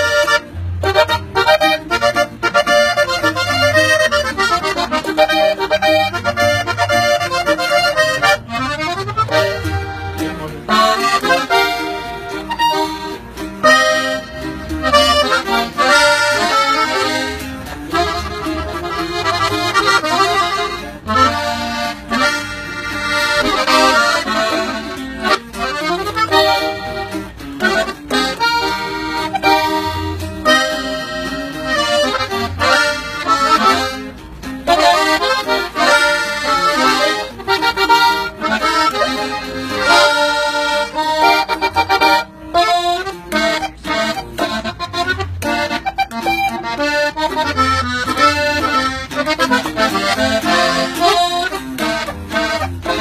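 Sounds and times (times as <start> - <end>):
button accordion melody: 0.0 - 53.0.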